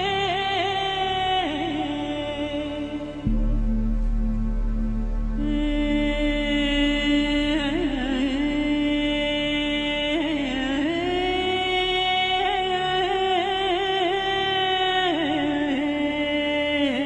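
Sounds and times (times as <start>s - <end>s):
person singing long held notes: 0.0s - 17.0s.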